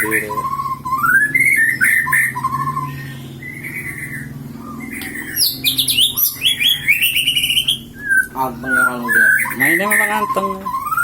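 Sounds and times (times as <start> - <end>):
songbird chirping and twittering: 0.0 - 11.0.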